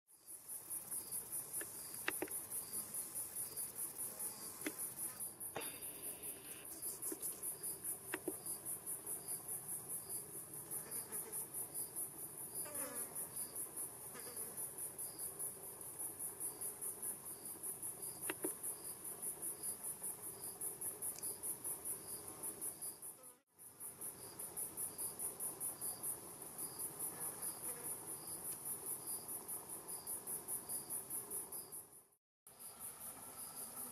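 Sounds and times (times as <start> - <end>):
crickets chorus: 0.1 - 33.9
lower insect chirp: 0.1 - 33.9.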